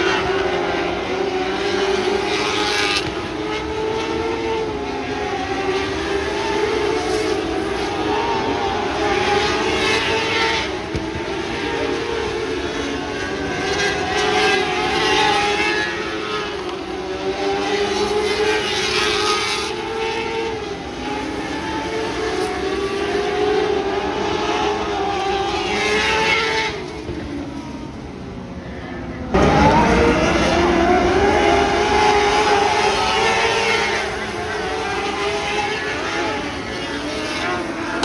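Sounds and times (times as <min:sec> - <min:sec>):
racing car engines howling: 0:00.0 - 0:38.0.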